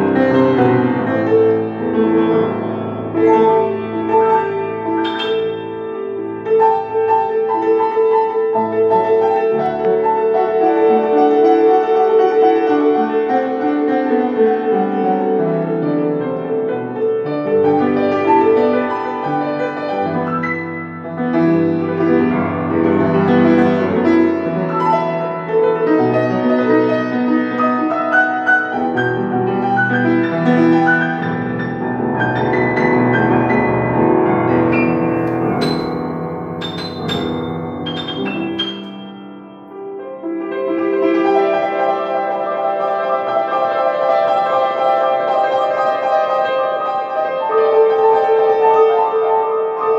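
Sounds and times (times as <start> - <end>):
solo piano playing: 0.0 - 49.9.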